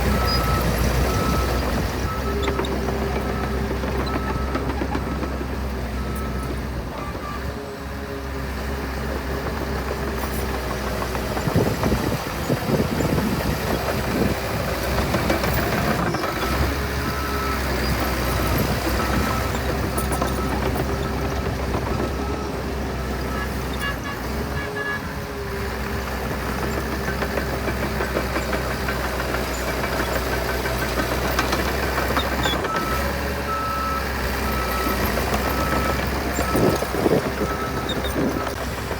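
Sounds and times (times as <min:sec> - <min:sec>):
diesel engine of heavy machine: 0:00.0 - 0:38.9.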